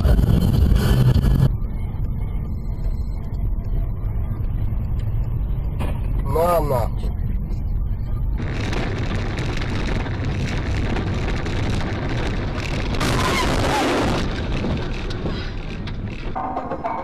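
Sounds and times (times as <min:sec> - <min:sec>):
heavy vehicle road noise: 0:00.0 - 0:17.0.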